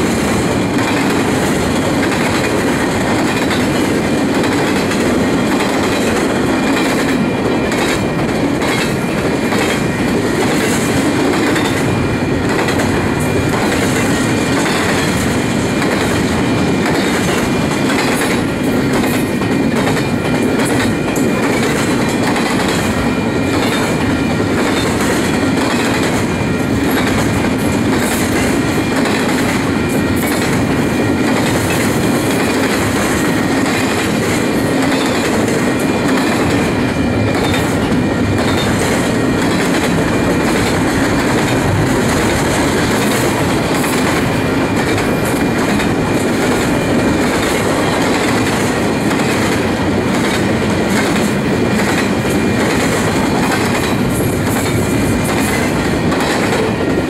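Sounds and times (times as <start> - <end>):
train wheels clattering over rail joints: 0.0 - 57.0.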